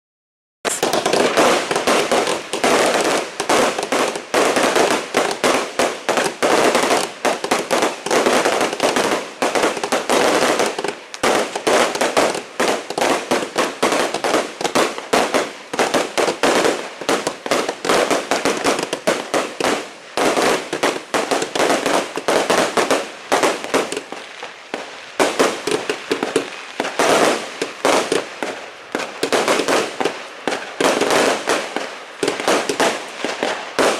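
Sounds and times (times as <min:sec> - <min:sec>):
fireworks banging and crackling: 0:00.7 - 0:33.9.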